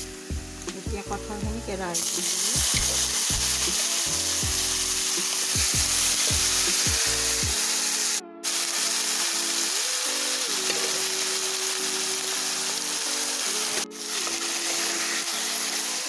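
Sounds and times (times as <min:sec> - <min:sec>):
background music: 0:00.0 - 0:16.0
food frying in hot oil: 0:01.9 - 0:16.0.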